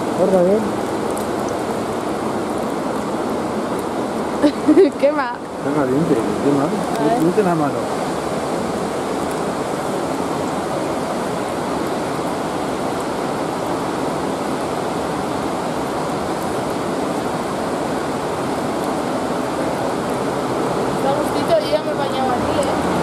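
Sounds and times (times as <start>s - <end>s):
water rushing along stone channel: 0.0s - 23.0s.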